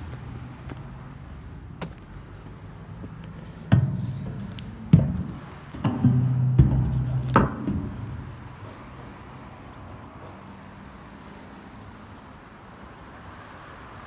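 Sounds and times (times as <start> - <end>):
street background noise: 0.0 - 14.0.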